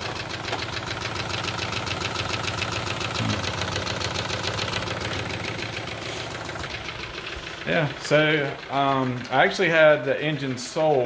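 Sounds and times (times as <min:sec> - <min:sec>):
model steam engine running: 0:00.0 - 0:11.0.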